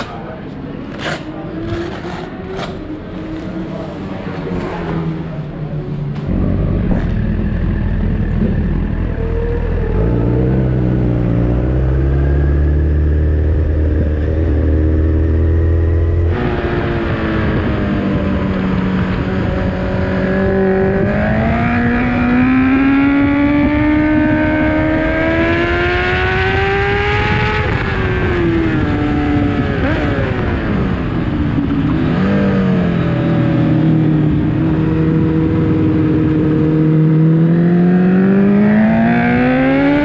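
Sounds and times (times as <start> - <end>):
motorcycle engine revving: 1.0 - 40.0.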